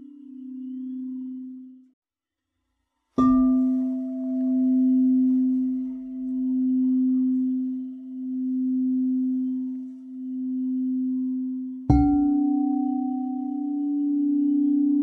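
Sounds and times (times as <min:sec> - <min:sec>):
singing bowl ringing: 0:00.0 - 0:01.9, 0:03.2 - 0:15.0.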